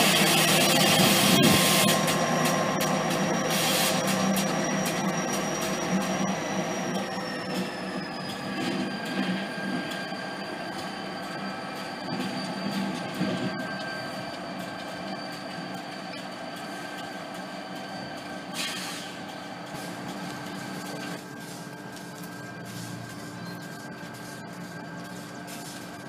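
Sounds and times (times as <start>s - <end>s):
train rolling rumble: 0.0s - 26.0s
train wheels squealing: 0.0s - 26.0s.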